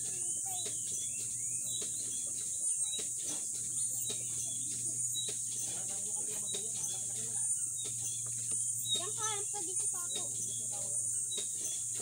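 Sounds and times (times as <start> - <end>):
bird chirps: 0.0 - 12.0
high-pitched insect drone: 0.0 - 12.0.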